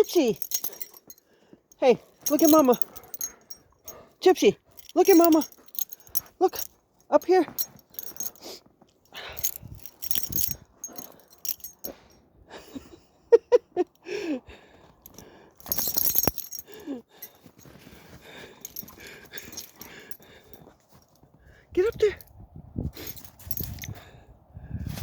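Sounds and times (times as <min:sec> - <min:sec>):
metal dog tags jingling: 0:00.0 - 0:12.2, 0:15.0 - 0:22.3, 0:23.0 - 0:24.0.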